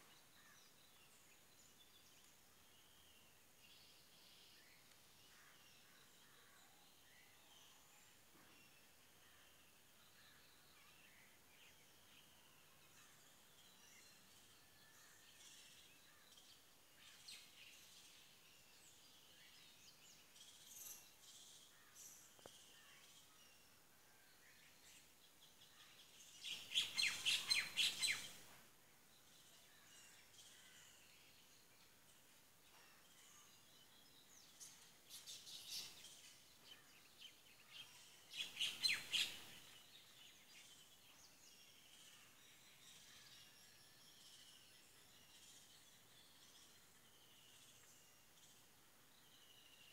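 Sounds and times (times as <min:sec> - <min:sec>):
birds chirping: 0:00.0 - 0:49.9
faint steady hiss: 0:00.0 - 0:49.9.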